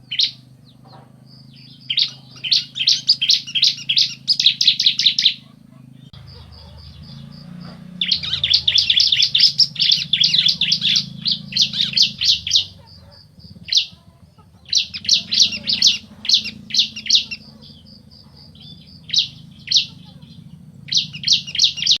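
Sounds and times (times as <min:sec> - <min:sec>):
birds chirping: 0:00.0 - 0:22.0
low steady hum: 0:00.0 - 0:22.0
thin high bird trill: 0:00.0 - 0:22.0.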